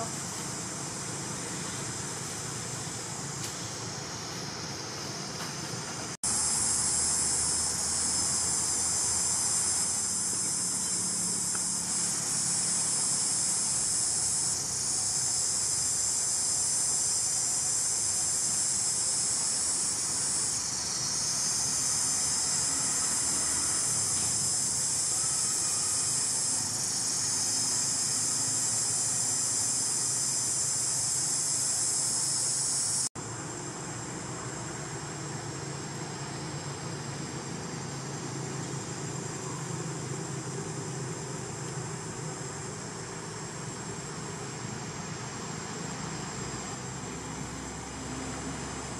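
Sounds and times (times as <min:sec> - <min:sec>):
insect chorus buzzing drone: 0:00.0 - 0:48.9.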